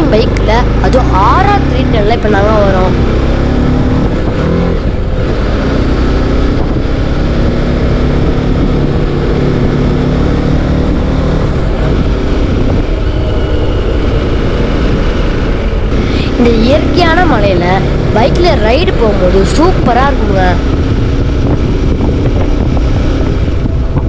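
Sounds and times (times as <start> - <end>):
motorcycle engine running: 0.0 - 24.0
wind noise: 0.0 - 24.0.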